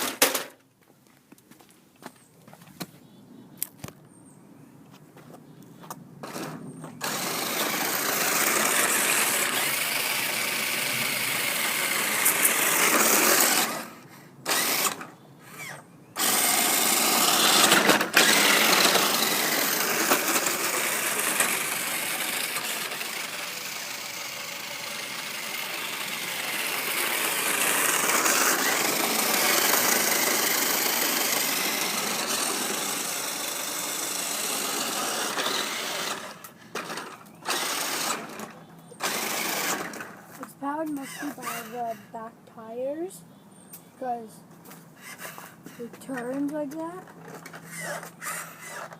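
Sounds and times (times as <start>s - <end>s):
toy car electric motor whining: 6.2s - 40.2s, 40.8s - 42.3s, 45.0s - 48.9s.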